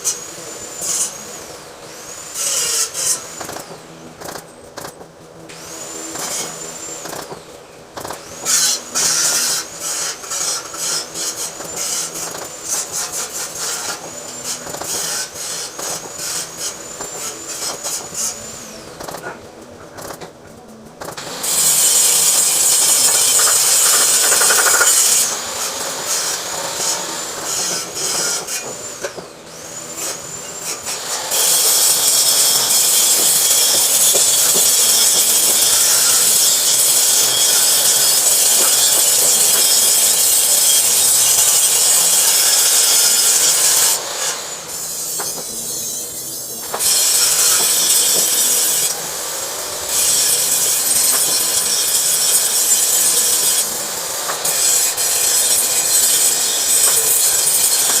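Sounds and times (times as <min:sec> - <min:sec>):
welding arc hissing and crackling: 0:00.0 - 0:58.0.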